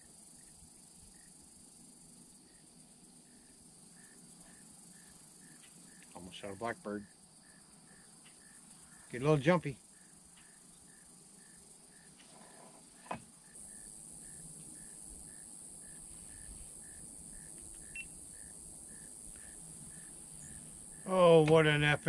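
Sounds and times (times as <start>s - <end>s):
cricket chirping: 0.0s - 22.0s
steady high hiss: 0.0s - 22.0s.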